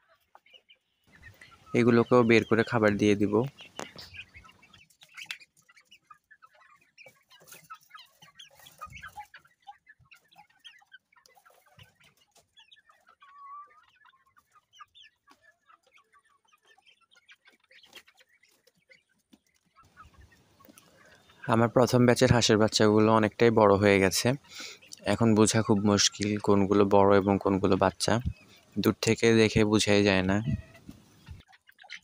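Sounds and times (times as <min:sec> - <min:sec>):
young chickens clucking: 0:00.0 - 0:32.0.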